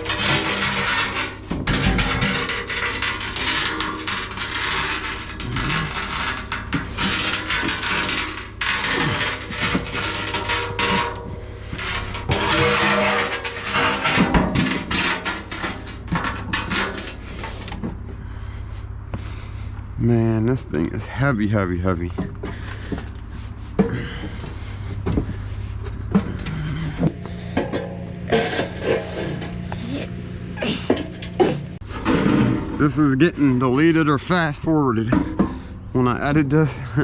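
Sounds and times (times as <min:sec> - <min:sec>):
bathtub dragging and scraping: 0:00.0 - 0:18.2, 0:22.5 - 0:37.0.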